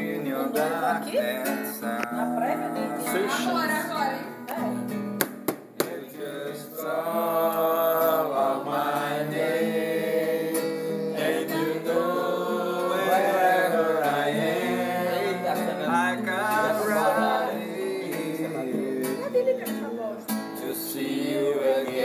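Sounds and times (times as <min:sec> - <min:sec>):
man singing: 0:00.0 - 0:03.9, 0:05.9 - 0:19.4, 0:20.6 - 0:22.0
acoustic guitar: 0:00.0 - 0:22.0.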